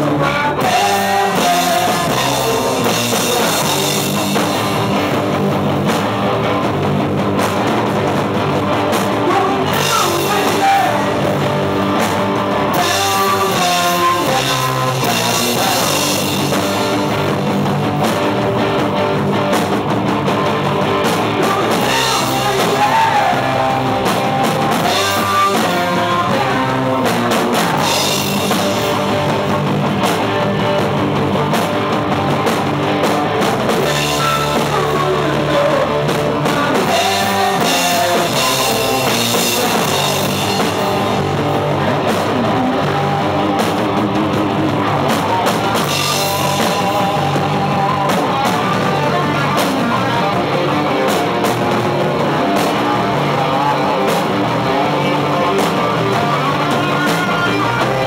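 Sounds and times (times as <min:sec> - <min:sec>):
drum kit with cymbals: 0:00.0 - 0:58.0
electric guitars: 0:00.0 - 0:58.0.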